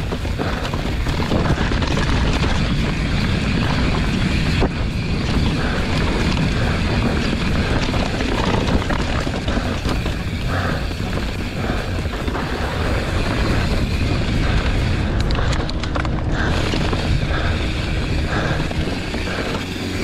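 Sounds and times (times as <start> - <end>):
bike rattling: 0.0 - 20.0
bike tyres rumbling on dirt: 0.0 - 20.0
wind buffeting microphone: 0.0 - 20.0.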